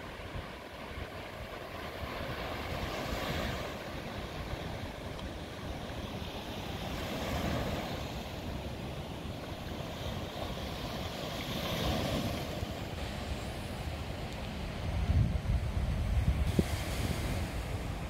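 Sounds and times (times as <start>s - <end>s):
small waves breaking on beach: 0.0s - 18.0s
wind buffeting microphone: 0.0s - 18.0s.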